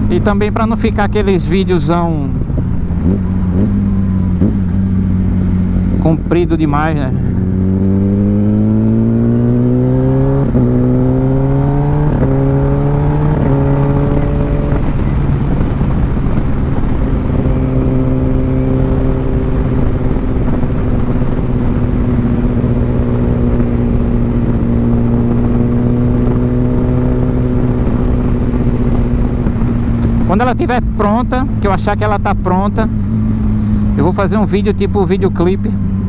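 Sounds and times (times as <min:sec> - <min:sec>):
wind noise: 0:00.0 - 0:34.3
motorcycle engine accelerating: 0:00.0 - 0:36.0.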